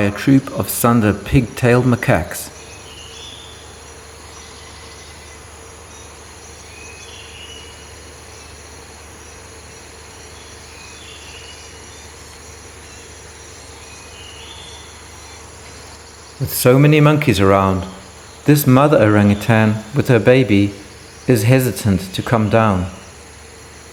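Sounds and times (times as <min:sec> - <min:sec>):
insects buzzing: 0:00.0 - 0:23.9.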